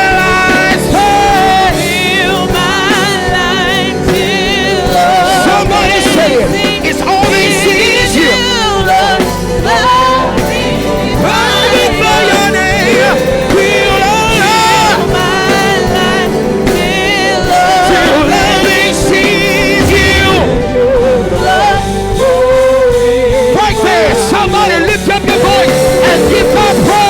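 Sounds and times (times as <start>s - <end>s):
sustained instrumental accompaniment: 0.0s - 27.0s
voices singing with vibrato: 0.0s - 27.0s.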